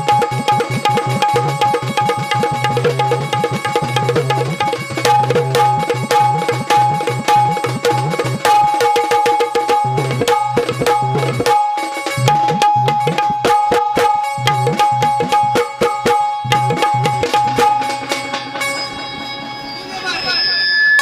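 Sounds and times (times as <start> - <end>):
repeating melody line: 0.0 - 18.4.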